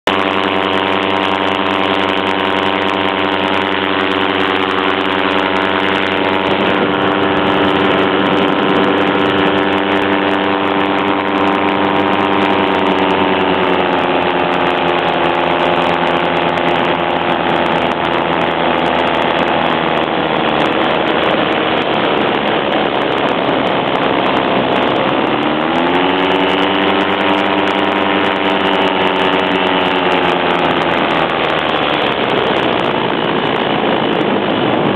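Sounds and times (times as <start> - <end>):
small engine running: 0.0 - 34.9
wind rush: 0.0 - 34.9.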